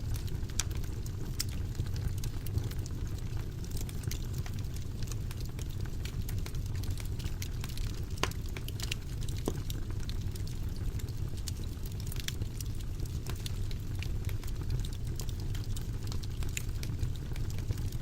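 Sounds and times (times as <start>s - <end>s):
fire flames rumbling and crackling: 0.0s - 18.0s.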